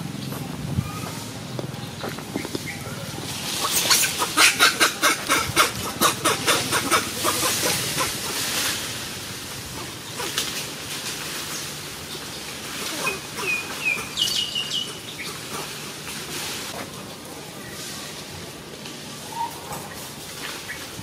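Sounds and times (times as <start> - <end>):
dry leaves rustling and crackling: 0.0 - 21.0.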